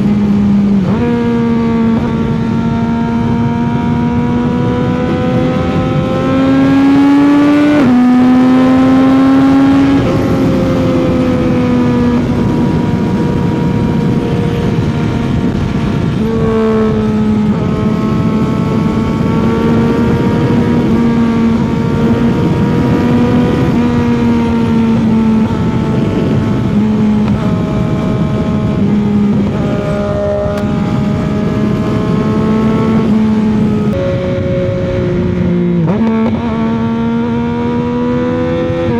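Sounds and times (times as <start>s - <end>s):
motorcycle engine accelerating: 0.0s - 38.9s
wind rushing: 0.0s - 38.9s.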